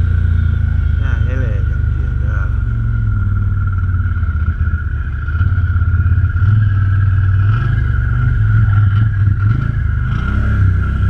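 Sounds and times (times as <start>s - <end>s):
atv engine running: 0.0s - 11.0s
high engine whine: 0.0s - 11.0s.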